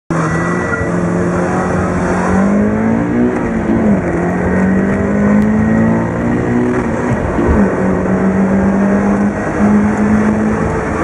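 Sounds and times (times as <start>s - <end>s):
car engine accelerating: 0.1s - 11.0s.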